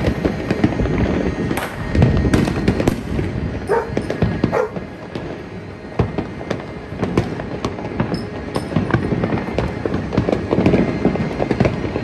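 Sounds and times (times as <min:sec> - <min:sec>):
distant fireworks explosions: 0:00.0 - 0:12.0
fireworks bangs and pops: 0:00.0 - 0:12.0.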